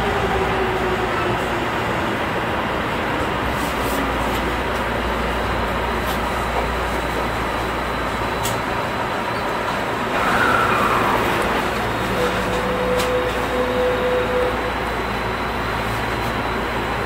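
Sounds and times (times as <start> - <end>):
electric train rolling: 0.0 - 17.0.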